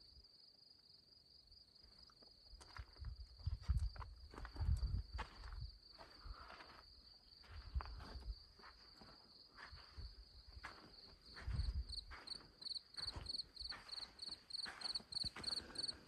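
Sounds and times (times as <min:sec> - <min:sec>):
cricket chirping: 0:00.0 - 0:16.0
crickets trilling: 0:00.8 - 0:16.0
footsteps and scuffs on rock: 0:02.6 - 0:16.0.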